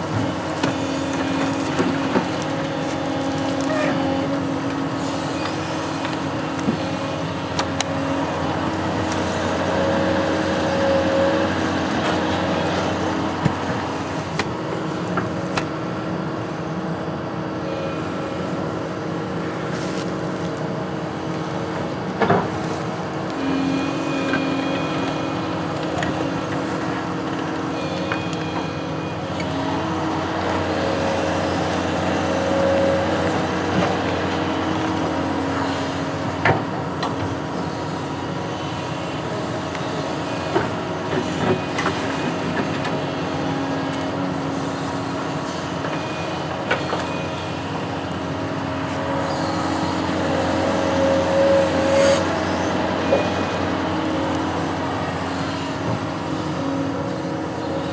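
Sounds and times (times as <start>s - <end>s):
construction machine engine running: 0.0s - 57.9s.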